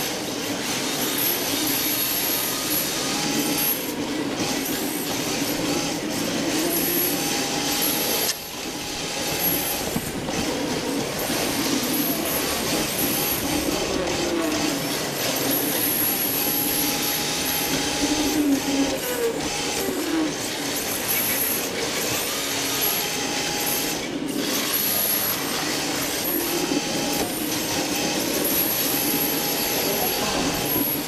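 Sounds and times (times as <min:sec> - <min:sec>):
electric motor whine: 0:00.0 - 0:31.0.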